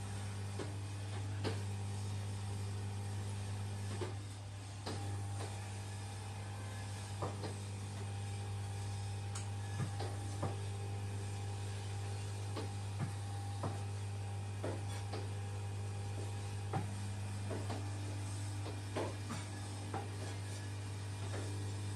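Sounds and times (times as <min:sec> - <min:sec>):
massage mechanism knocks and clicks: 0:00.0 - 0:02.4, 0:03.1 - 0:06.2, 0:06.8 - 0:21.9
massage chair motor hum: 0:00.0 - 0:21.9.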